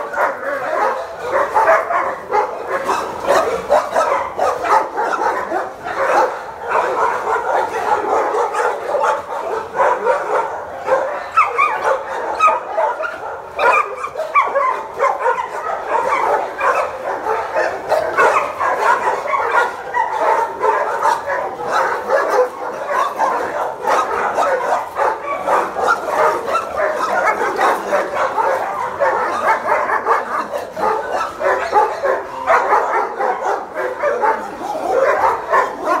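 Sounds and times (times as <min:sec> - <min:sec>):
many dogs barking: 0:00.0 - 0:36.0.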